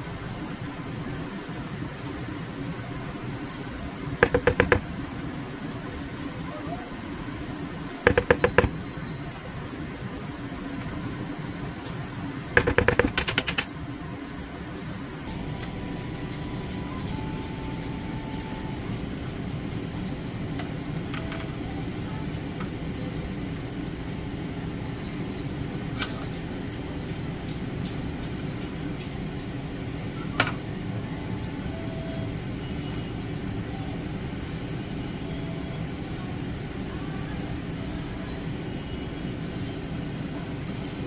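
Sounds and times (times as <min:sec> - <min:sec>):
low rumble of fan: 0:00.0 - 0:41.0.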